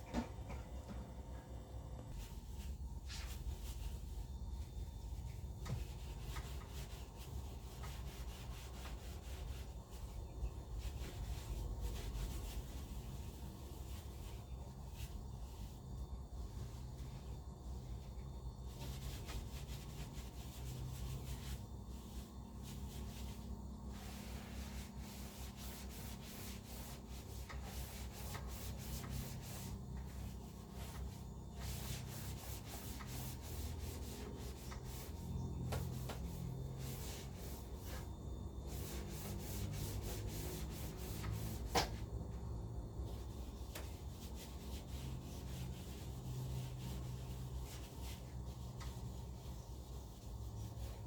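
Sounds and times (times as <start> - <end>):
steady low hum: 0.0 - 51.0
hand scrubbing strokes: 2.1 - 42.1, 43.0 - 51.0.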